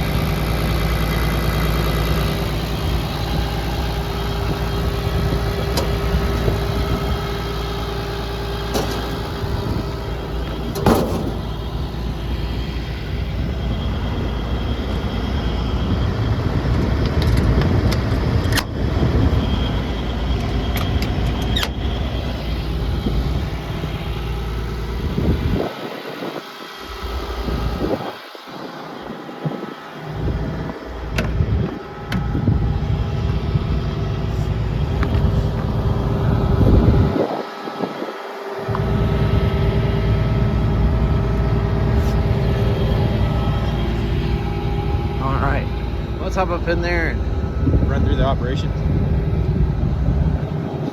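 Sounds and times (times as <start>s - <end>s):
excavator diesel engine idling: 0.0s - 50.9s.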